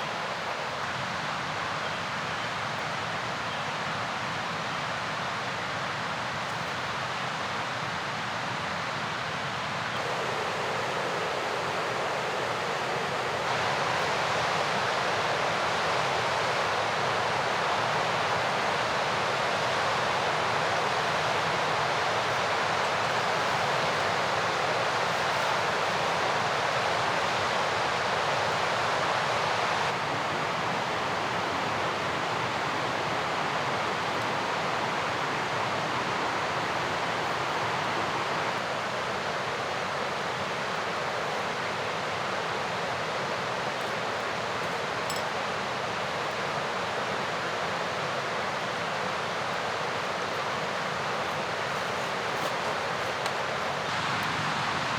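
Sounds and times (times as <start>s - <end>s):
river rushing: 9.7s - 54.9s.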